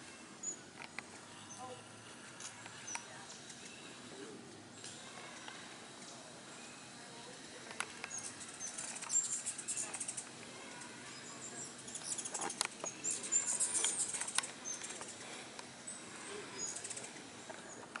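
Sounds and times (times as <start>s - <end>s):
hummingbirds chipping and twittering: 0.0s - 18.0s.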